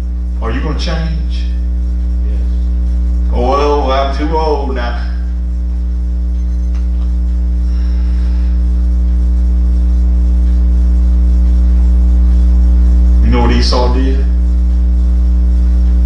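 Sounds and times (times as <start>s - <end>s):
electrical mains hum: 0.0s - 16.0s
high-pitched electrical buzz: 0.0s - 16.0s.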